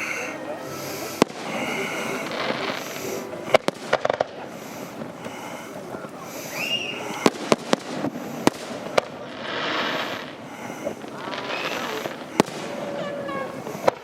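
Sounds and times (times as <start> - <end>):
firework whistle: 0.0 - 4.9, 6.4 - 10.3, 11.2 - 14.0
crowd murmur: 0.0 - 14.0
fireworks banging: 0.0 - 14.0.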